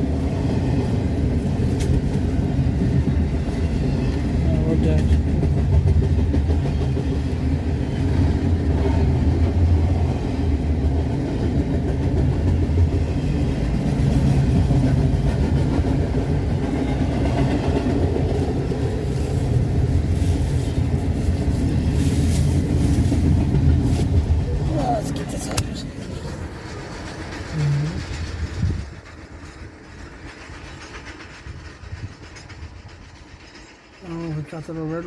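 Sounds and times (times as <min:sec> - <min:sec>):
train passing rumble: 0:00.0 - 0:35.0.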